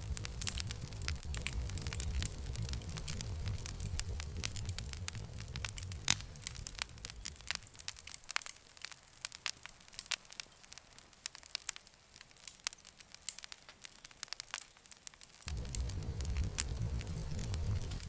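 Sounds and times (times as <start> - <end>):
campfire crackling: 0.0 - 18.0
low rumble of flames: 0.0 - 18.0.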